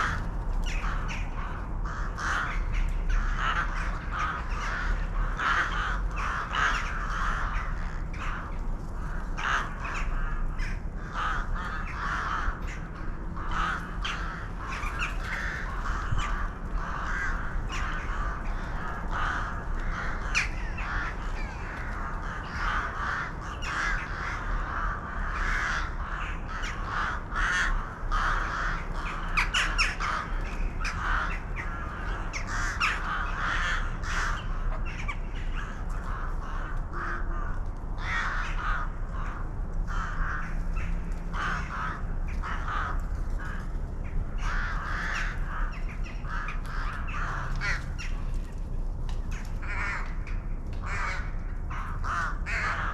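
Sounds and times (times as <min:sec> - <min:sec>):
flock of birds calling: 0:00.0 - 0:52.9.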